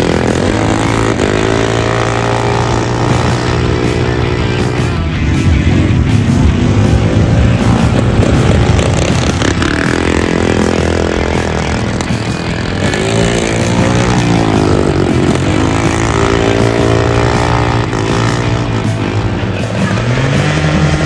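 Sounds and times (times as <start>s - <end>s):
small engines revving: 0.0s - 21.0s.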